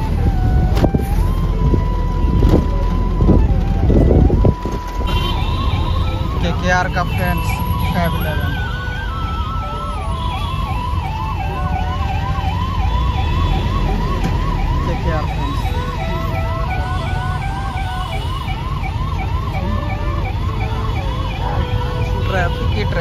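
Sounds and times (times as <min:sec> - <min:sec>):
emergency siren wailing: 0:00.0 - 0:23.0
road traffic rumble: 0:00.0 - 0:23.0.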